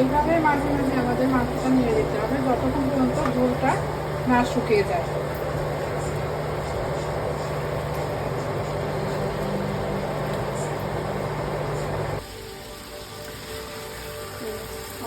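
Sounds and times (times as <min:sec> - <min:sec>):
constant low hum: 0:00.0 - 0:12.2
chicken sizzling in a pot: 0:00.0 - 0:15.0.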